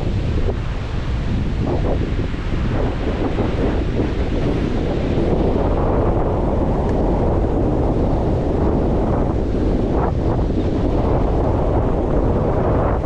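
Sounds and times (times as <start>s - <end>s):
low rumble: 0.0s - 13.0s
ocean surf washing onto beach: 0.0s - 13.0s
wind buffeting microphone: 0.0s - 13.0s.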